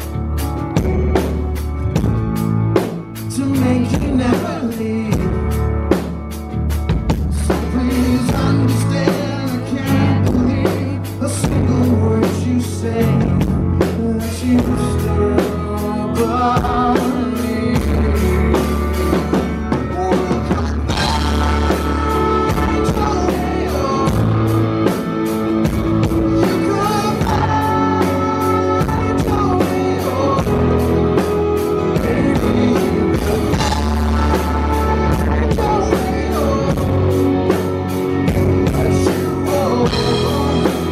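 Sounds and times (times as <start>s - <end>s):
bass guitar: 0.0s - 40.9s
drum kit: 0.0s - 40.9s
electric guitar: 0.0s - 40.9s
man singing: 3.2s - 5.9s, 7.3s - 40.9s.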